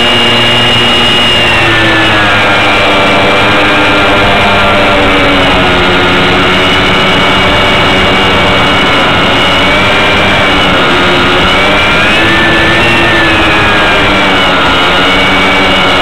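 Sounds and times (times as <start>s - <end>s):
model plane motor whine: 0.0s - 16.0s
wind rush on microphone: 0.0s - 16.0s.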